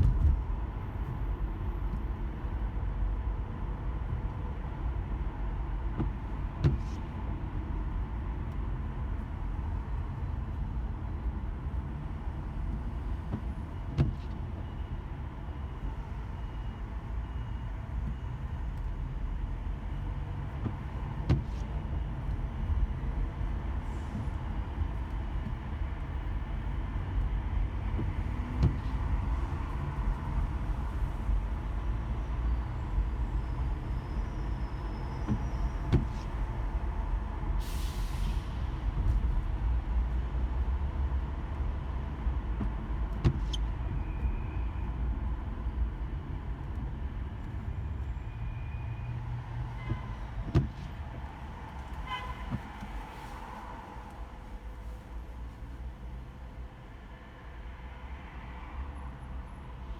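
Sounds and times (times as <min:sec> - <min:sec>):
car interior rumble: 0:00.0 - 0:37.6, 0:38.5 - 0:57.6.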